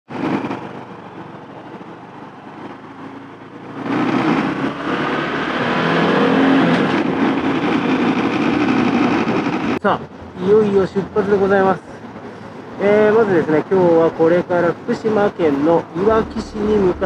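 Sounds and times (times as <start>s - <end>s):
motorcycle engine accelerating: 0.1s - 13.1s, 15.9s - 17.0s.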